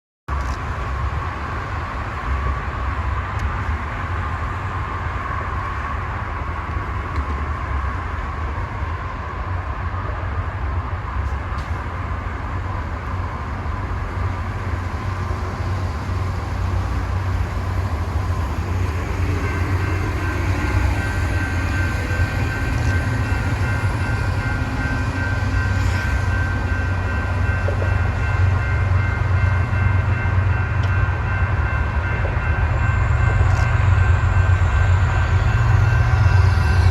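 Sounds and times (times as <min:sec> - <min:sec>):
diesel freight train rumble: 0:00.3 - 0:36.9.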